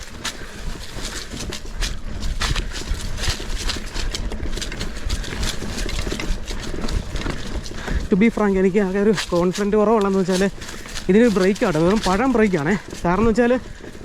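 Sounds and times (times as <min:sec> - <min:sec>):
mountain bike clattering over rocks: 0:00.0 - 0:14.0.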